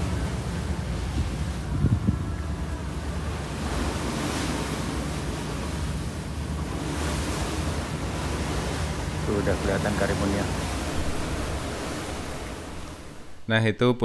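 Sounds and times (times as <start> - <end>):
wind blowing across microphone: 0.0 - 9.4, 10.0 - 13.4
sea water rushing past ferry: 0.0 - 13.6.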